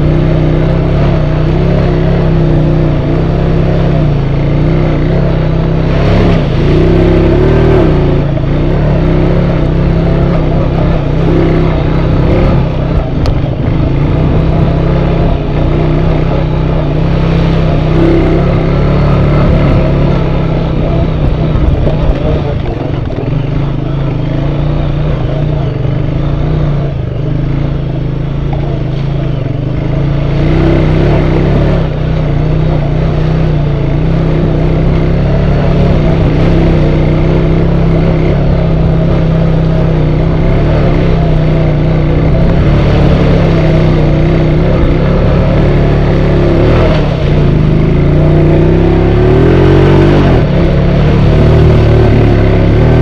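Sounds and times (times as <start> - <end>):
quad bike engine running: 0.0 - 53.0.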